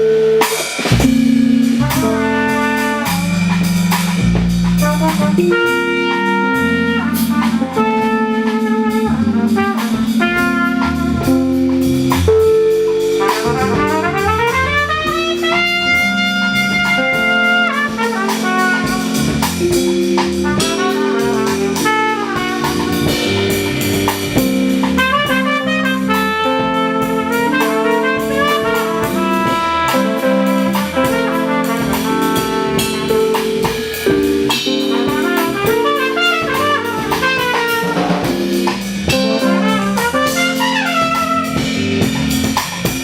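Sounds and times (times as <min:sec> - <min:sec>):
drum kit: 0:00.0 - 0:43.0
keyboard bass: 0:00.0 - 0:43.0
trumpet: 0:00.0 - 0:43.0.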